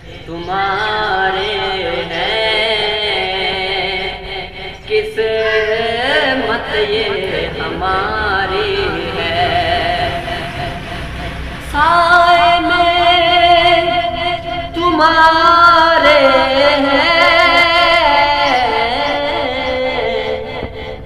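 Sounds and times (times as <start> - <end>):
man singing in high voice: 0.0 - 21.0.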